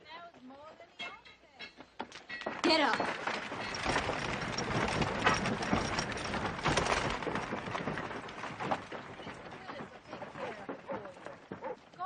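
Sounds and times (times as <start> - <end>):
horse hooves on dirt: 0.0 - 12.0.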